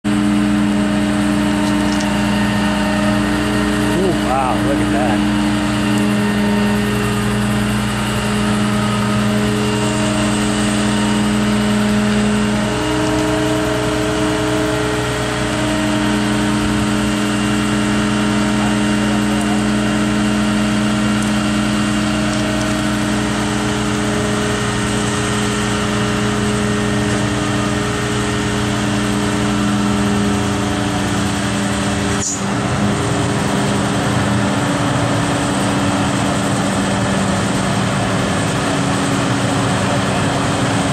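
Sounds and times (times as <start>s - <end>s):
crane diesel engine running: 0.0s - 40.9s.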